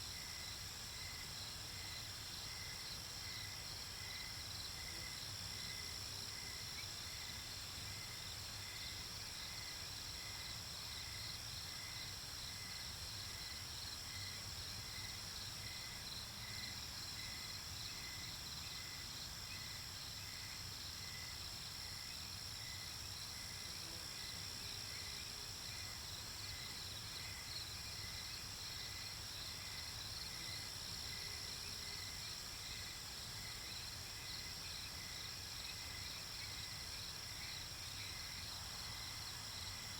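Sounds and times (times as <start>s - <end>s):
pulsing cricket chirp: 0.0s - 39.9s.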